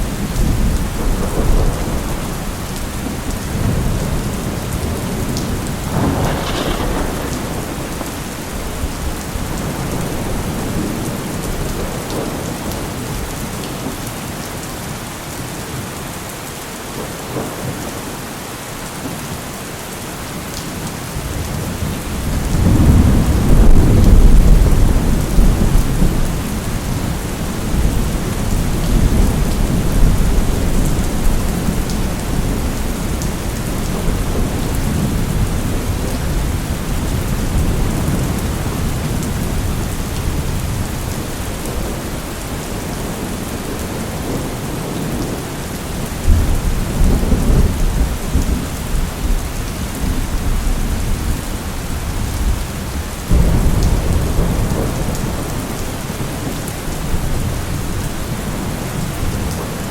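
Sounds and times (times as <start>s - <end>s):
thunder rumbling: 0.0s - 13.5s, 21.2s - 59.9s
steady rain: 0.0s - 59.9s.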